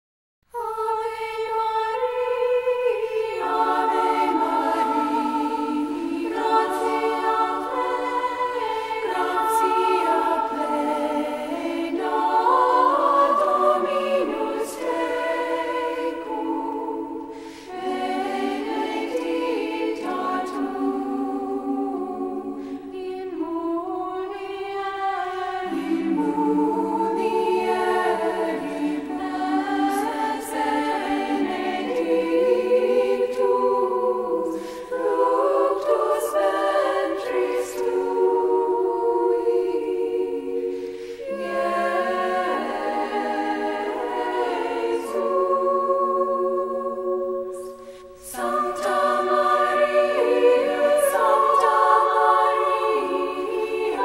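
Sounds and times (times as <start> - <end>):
choir singing long notes: 0.4 - 54.0.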